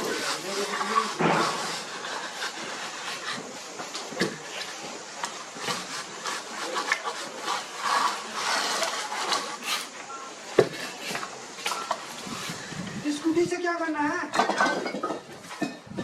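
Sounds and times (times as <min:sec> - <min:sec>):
tools scraping and tapping brick: 0:00.0 - 0:13.0.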